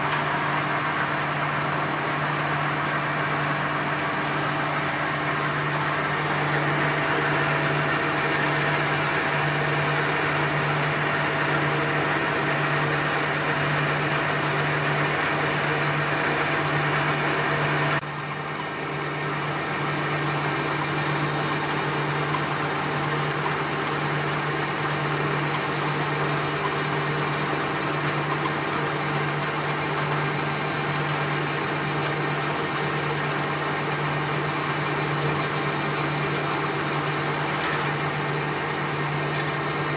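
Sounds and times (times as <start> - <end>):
machinery humming and whirring: 0.0 - 39.9.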